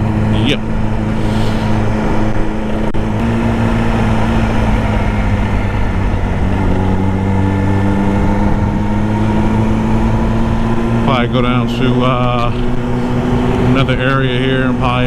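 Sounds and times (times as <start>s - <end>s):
sport bike engine running: 0.0s - 15.0s.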